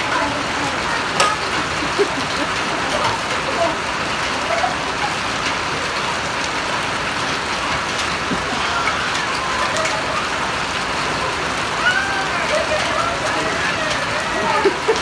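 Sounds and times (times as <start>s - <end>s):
rain falling on stone paving: 0.0s - 15.0s.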